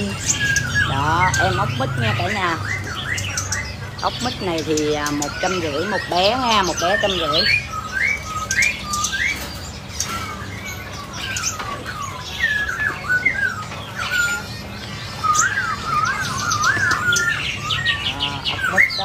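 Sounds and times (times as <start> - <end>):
bird trill: 0.0 - 19.0
songbirds chirping: 0.0 - 19.0.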